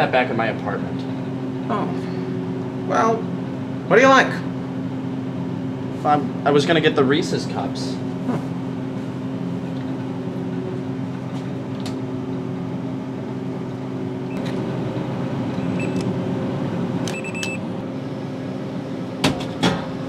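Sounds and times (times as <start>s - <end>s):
vending machine humming: 0.0s - 20.0s.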